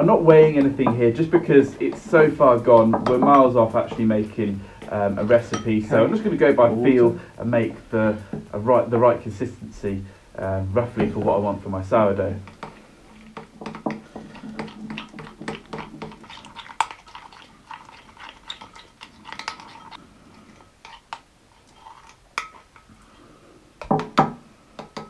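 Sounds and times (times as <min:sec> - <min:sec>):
spoon stirring thick paste: 0:00.0 - 0:09.6, 0:10.8 - 0:23.1.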